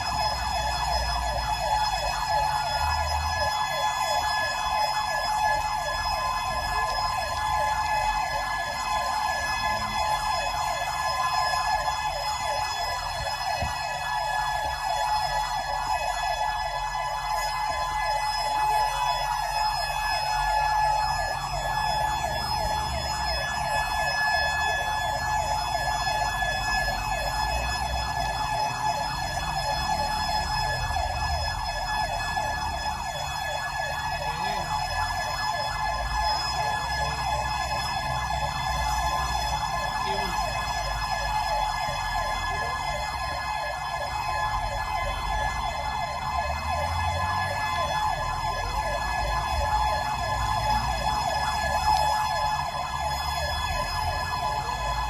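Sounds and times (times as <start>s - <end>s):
electronic siren yelp: 0.0s - 55.0s.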